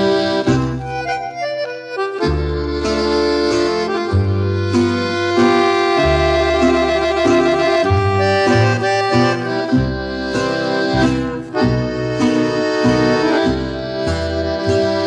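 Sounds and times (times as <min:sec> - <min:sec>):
accordion waltz music: 0:00.0 - 0:15.0.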